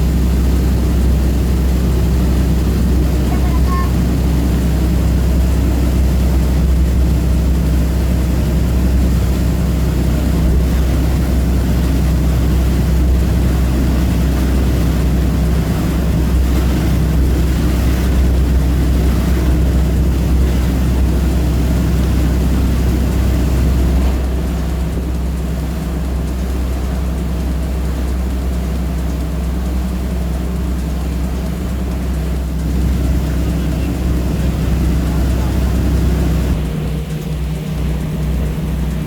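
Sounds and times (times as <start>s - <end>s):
boat engines droning: 0.0s - 39.0s.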